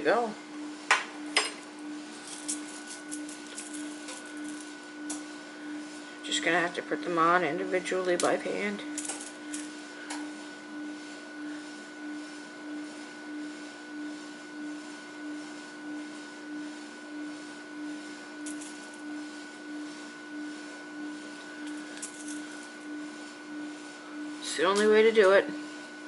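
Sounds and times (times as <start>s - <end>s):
pulsing electrical hum: 0.0s - 26.0s.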